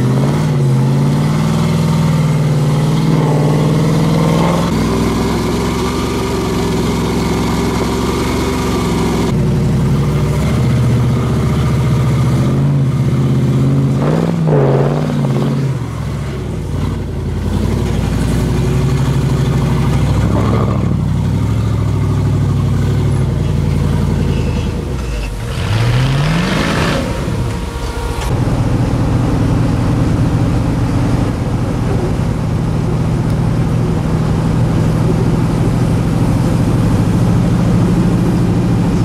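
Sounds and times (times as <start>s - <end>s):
buggy engine running at low revs: 0.0s - 39.0s.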